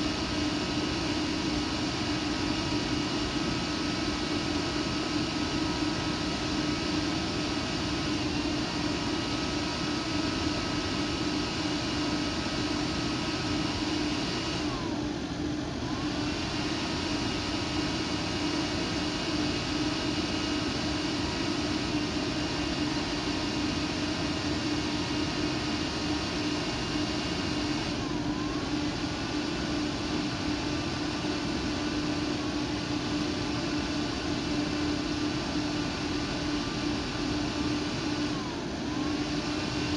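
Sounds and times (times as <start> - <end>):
cooling fan whirring: 0.0 - 39.9.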